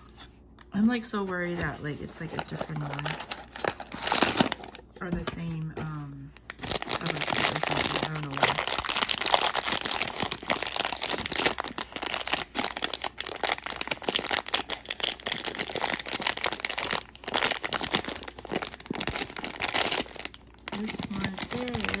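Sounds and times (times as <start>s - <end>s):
plastic wrapper crinkling: 1.6s - 5.0s, 6.3s - 22.0s.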